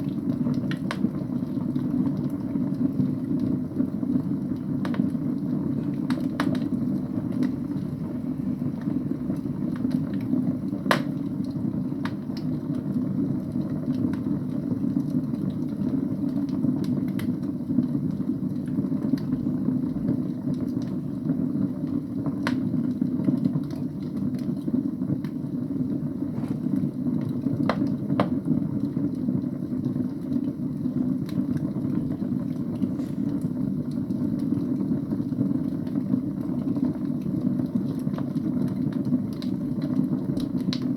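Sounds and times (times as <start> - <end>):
burning logs popping and crackling: 0.0 - 40.9
fire flames rumbling: 0.0 - 40.9.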